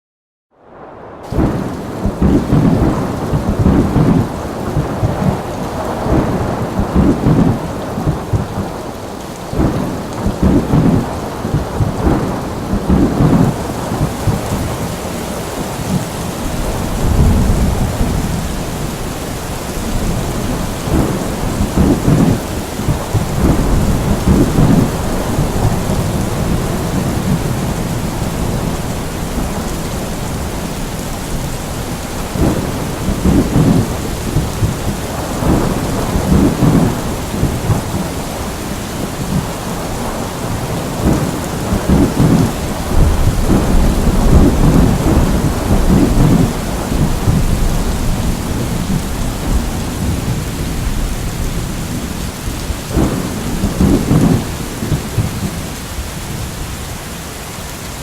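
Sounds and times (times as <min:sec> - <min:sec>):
heavy rain: 0:00.6 - 0:58.0
thunder rumbling: 0:01.1 - 0:56.6.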